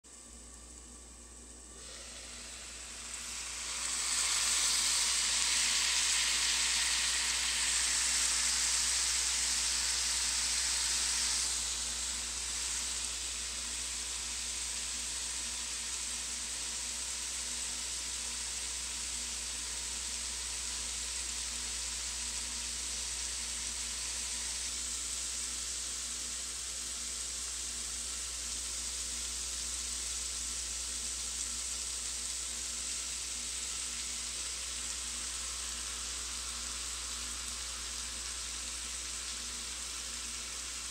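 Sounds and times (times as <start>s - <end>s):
vegetables sizzling in a skillet: 0.1s - 40.9s.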